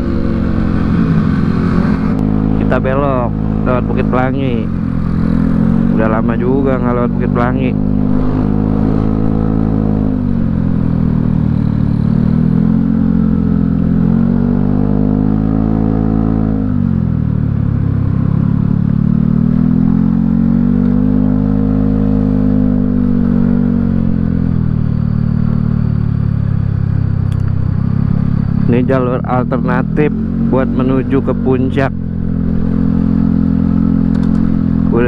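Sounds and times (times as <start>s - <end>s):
scooter engine revving: 0.0s - 35.0s.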